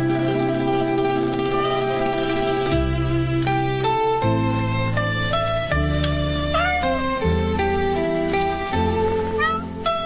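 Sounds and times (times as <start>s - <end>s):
string background music: 0.0s - 10.0s.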